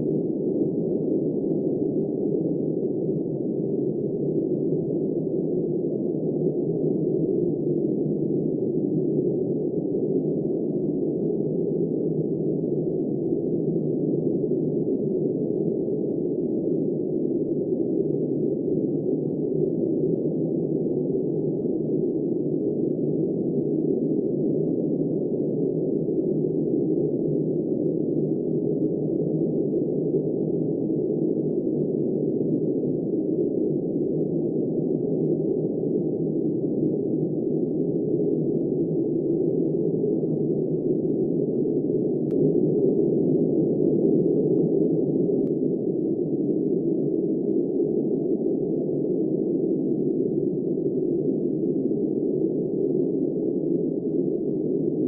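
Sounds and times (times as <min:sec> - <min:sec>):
muffled blizzard wind: 0:00.0 - 0:55.0.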